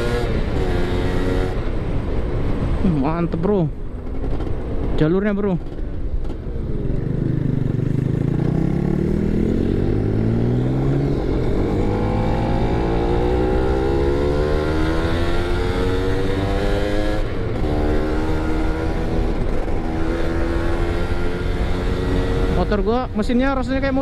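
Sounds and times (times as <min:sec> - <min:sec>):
motorcycle engine accelerating: 0:00.0 - 0:01.9, 0:05.6 - 0:24.0.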